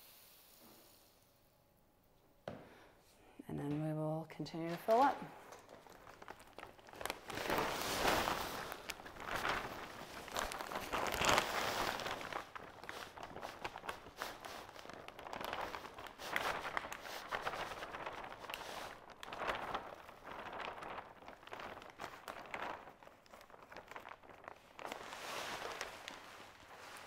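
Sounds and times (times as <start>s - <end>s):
soil pouring from plastic bag: 4.9s - 27.0s.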